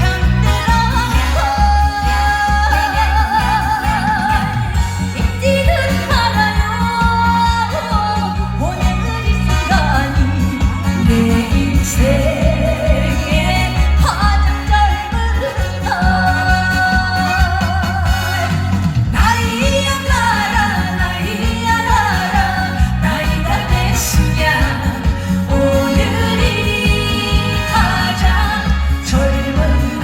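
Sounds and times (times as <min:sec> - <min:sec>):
backing track with bass beat: 0:00.0 - 0:30.0
person singing with vibrato: 0:00.0 - 0:30.0.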